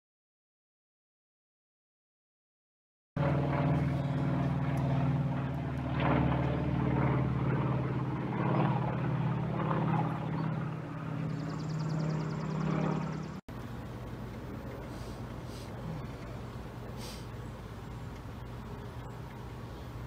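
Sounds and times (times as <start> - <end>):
jet airliner flying overhead: 3.2 - 20.0.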